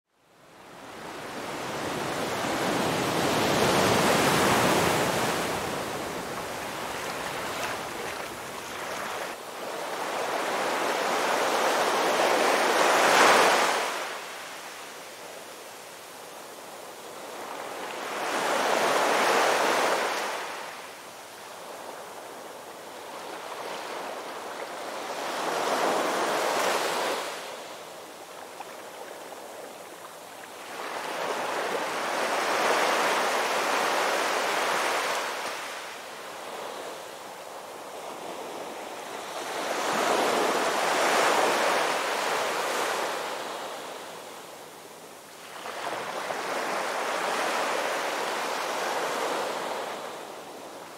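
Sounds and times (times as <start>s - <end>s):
ocean waves breaking on beach: 0.4s - 50.9s.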